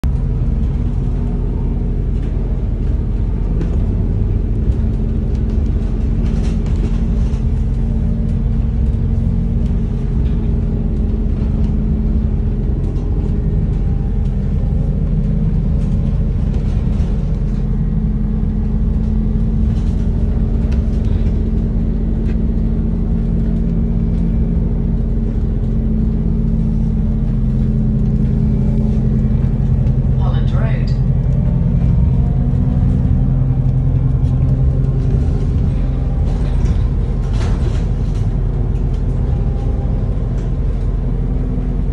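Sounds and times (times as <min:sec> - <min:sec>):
bus engine droning: 0:00.0 - 0:41.9.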